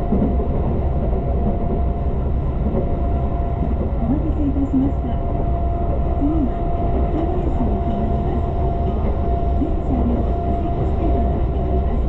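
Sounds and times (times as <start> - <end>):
train rumble with whine: 0.0 - 12.0.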